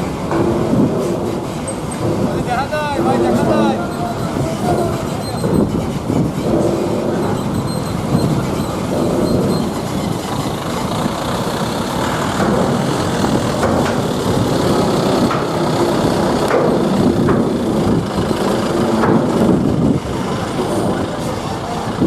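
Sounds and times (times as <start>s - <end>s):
diesel engines rumbling: 0.0s - 22.0s.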